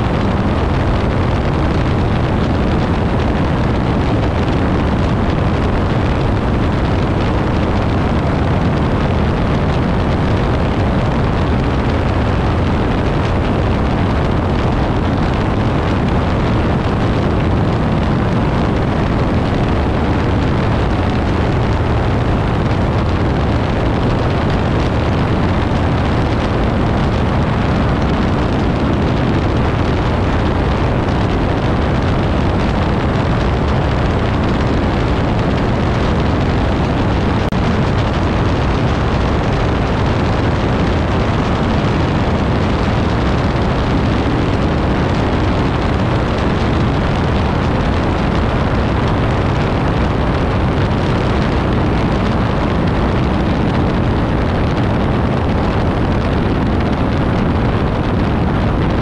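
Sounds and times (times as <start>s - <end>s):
wind rush: 0.0s - 59.0s.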